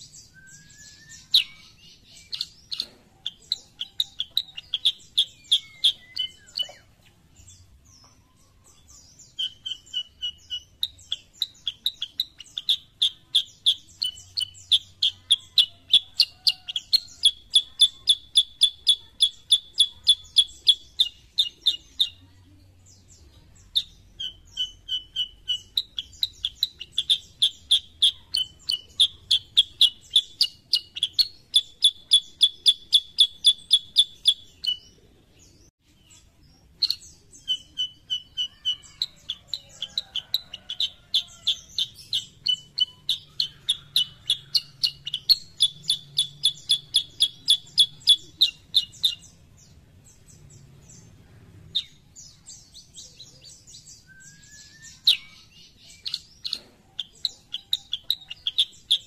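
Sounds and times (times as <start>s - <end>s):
bird singing sharp high chirps: 0.0s - 22.3s, 22.9s - 51.1s, 51.7s - 59.0s.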